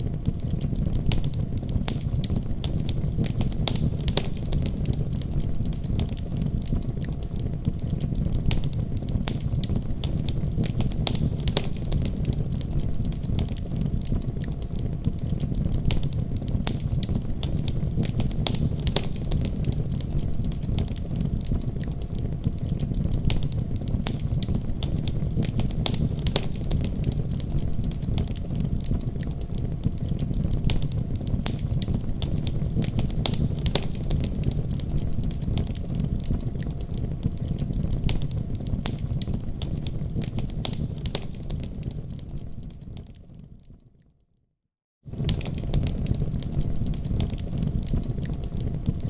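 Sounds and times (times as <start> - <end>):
fire crackling and popping: 0.0 - 44.0, 45.0 - 49.0
low rumble of flame: 0.0 - 44.0, 45.0 - 49.0.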